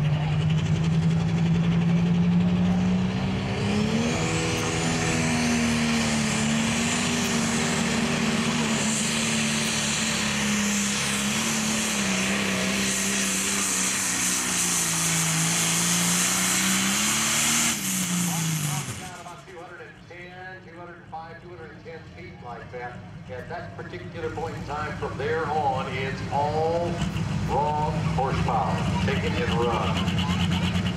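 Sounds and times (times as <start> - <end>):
diesel engine under full load: 0.0 - 30.9.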